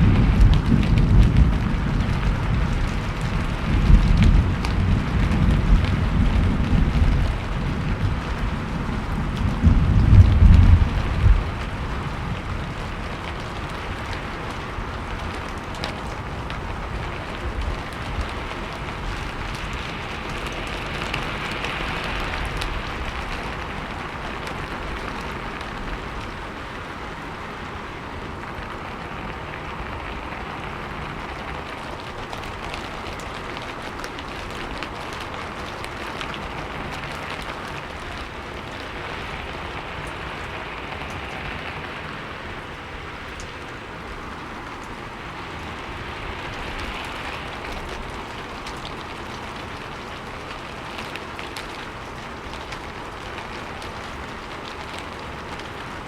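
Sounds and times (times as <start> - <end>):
raindrops ticking: 0.0 - 56.0
steady rain hiss: 0.0 - 56.0.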